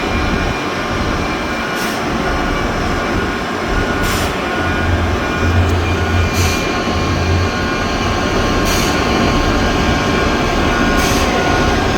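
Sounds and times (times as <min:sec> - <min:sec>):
heavy machinery humming: 0:00.0 - 0:11.9.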